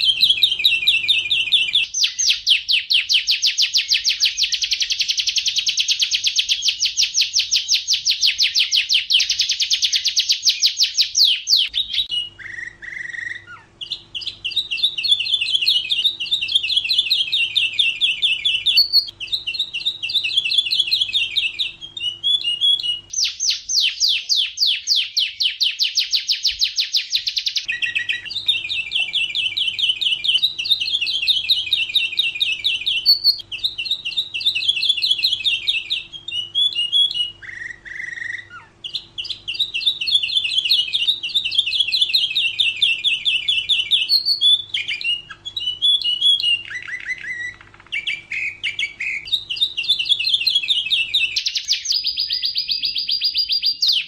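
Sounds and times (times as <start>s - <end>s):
canary singing rolling trills: 0.0s - 54.0s.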